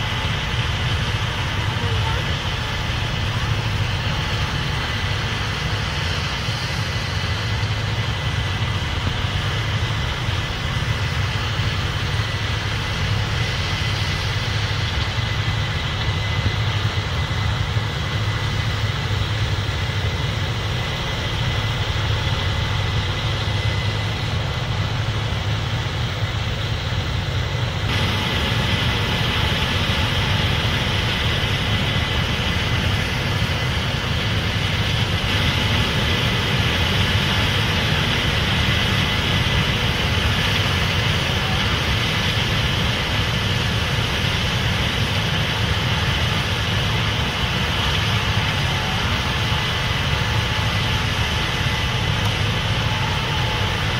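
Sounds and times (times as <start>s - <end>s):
combine engine drone: 0.0s - 53.9s.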